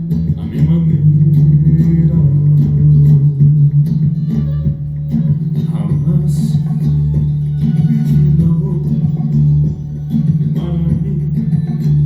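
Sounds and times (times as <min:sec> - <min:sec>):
guitar playing: 0:00.0 - 0:12.0.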